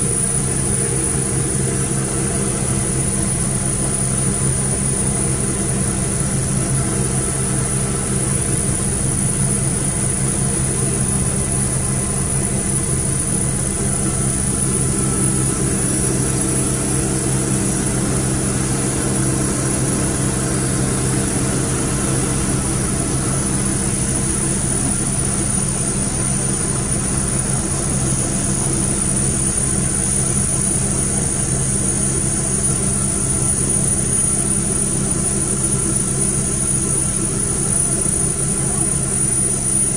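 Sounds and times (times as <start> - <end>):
helicopter engine and rotors droning: 0.0 - 39.9
high engine whine: 0.0 - 39.9.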